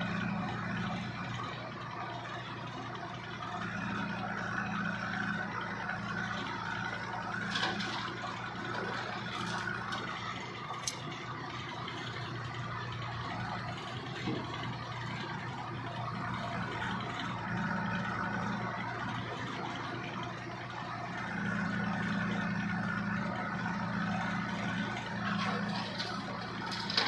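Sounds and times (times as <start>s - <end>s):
diesel engines running: 0.0s - 27.0s.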